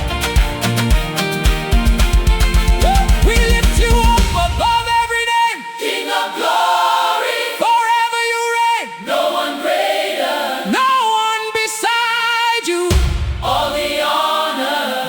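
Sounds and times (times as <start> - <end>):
gospel choir singing a cappella: 2.8 - 15.0.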